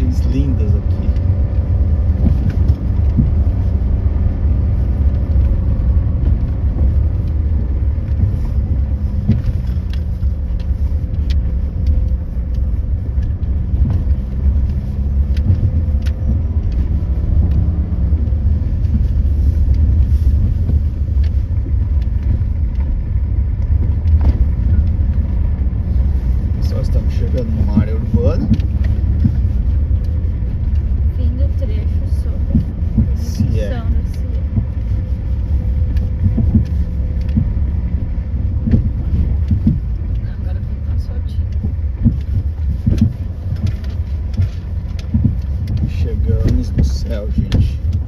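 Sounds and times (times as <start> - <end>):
car interior road rumble: 0.0 - 48.0
faint engine hum: 0.0 - 48.0.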